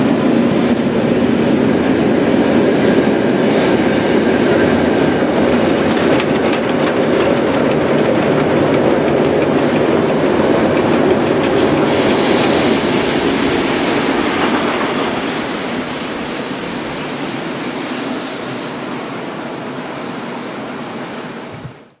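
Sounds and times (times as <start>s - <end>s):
train wheels rumbling on bridge: 0.0s - 19.8s.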